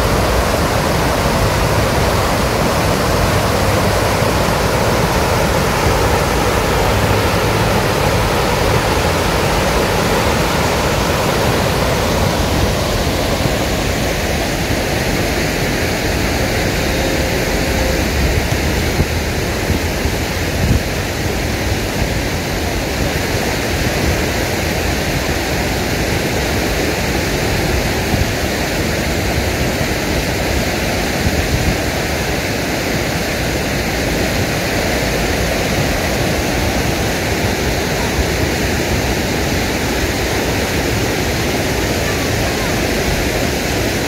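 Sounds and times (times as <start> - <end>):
stream water rushing over stones: 0.0 - 44.0.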